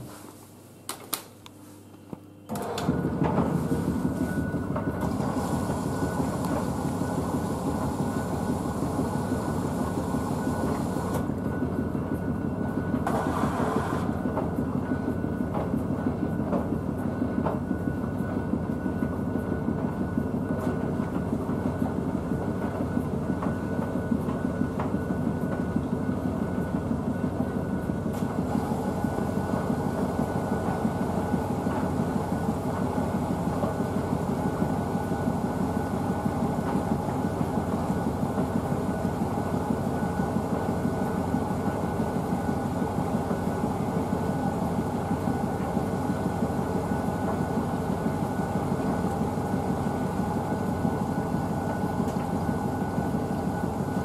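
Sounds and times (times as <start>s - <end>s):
washing machine filling with water: 2.5s - 54.0s.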